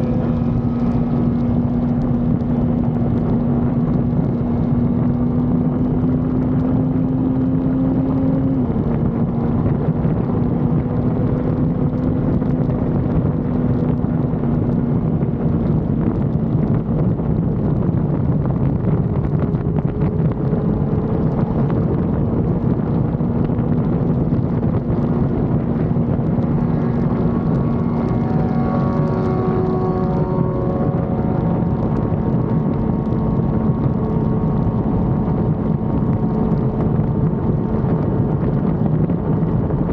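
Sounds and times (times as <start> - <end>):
motorcycle engine cruising: 0.0 - 39.9
second higher engine: 0.0 - 39.9
wind rush on microphone: 0.0 - 39.9.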